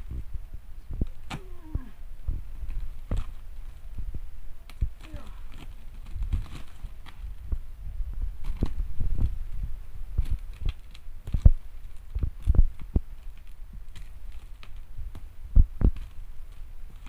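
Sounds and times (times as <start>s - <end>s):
low steady hum: 0.0s - 17.0s
plastic wrap thumps and crinkling: 0.9s - 17.0s.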